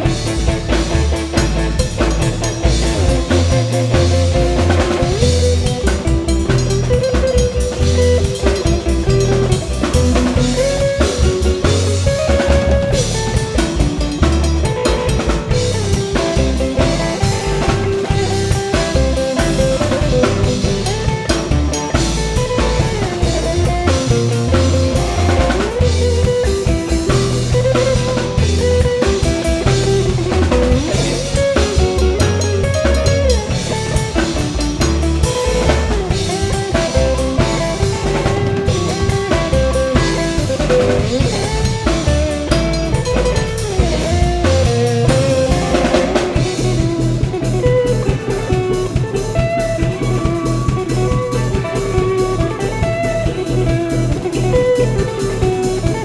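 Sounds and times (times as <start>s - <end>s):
bass guitar: 0.0s - 56.0s
drum beat: 0.0s - 56.0s
electric guitar bent notes: 0.0s - 56.0s
keyboards: 0.0s - 56.0s.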